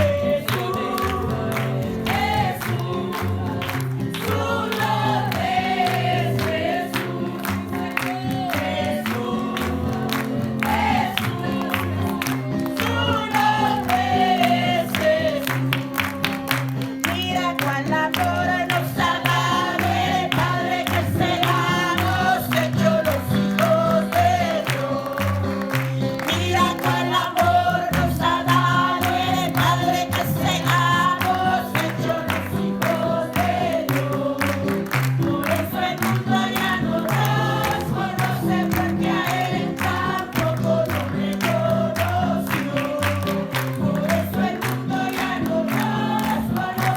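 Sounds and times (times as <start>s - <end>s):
group singing: 0.0s - 46.9s.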